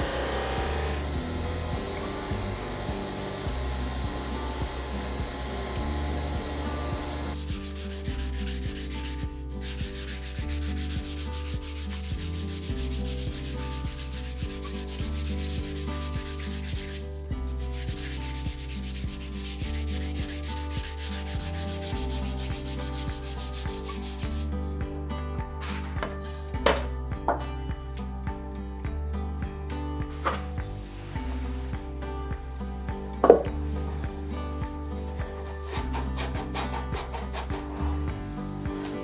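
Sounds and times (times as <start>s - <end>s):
sandpaper on spinning wood: 0.0s - 24.5s, 30.2s - 39.0s.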